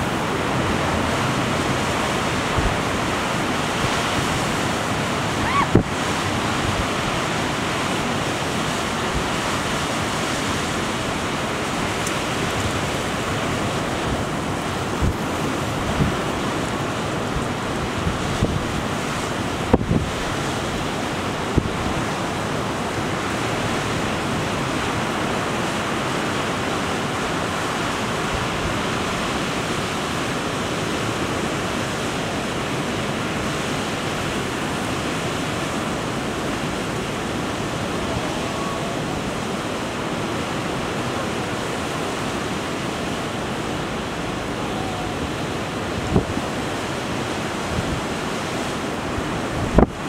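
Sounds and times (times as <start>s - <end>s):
strong wind: 0.0s - 50.0s
surf breaking over breakwall: 0.0s - 50.0s.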